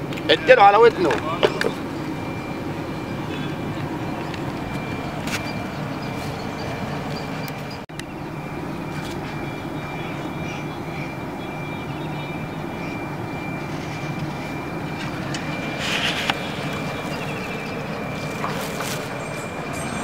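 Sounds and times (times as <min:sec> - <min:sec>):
high whine: 0:00.0 - 0:20.0
low rumble and hum: 0:00.0 - 0:20.0.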